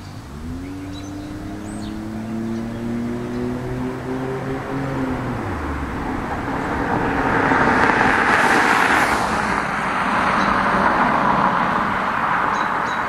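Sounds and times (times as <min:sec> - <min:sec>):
car driving past at speed: 0:00.3 - 0:12.9.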